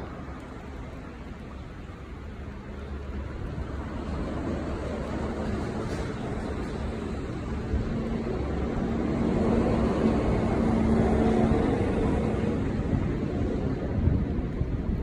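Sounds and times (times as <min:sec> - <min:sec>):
low outdoor rumble: 0:00.0 - 0:15.0
passing vehicle engine hum: 0:02.5 - 0:15.0.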